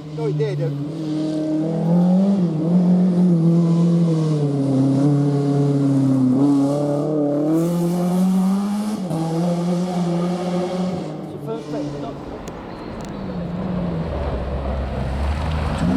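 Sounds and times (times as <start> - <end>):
rally car engine at high revs: 0.0 - 12.7, 13.4 - 15.9.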